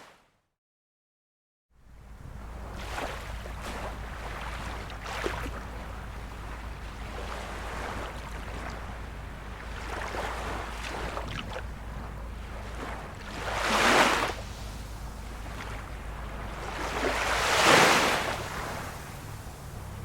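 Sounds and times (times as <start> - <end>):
steady low rumble: 1.8 - 20.0
waves lapping at shore: 1.8 - 20.0.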